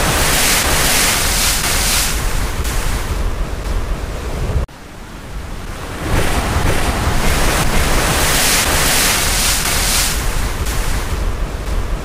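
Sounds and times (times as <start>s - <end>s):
ocean waves washing: 0.0s - 12.0s.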